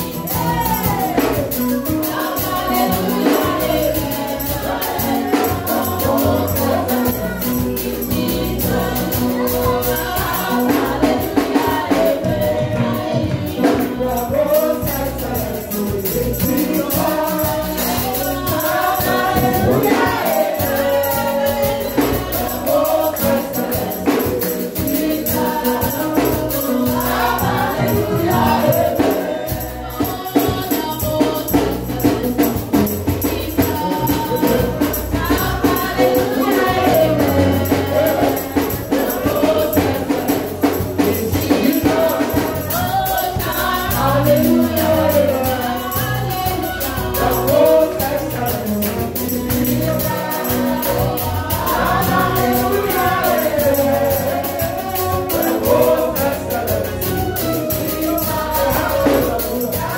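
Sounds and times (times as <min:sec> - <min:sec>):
choir singing: 0:00.0 - 0:59.9
tambourine rattling: 0:00.0 - 0:59.9.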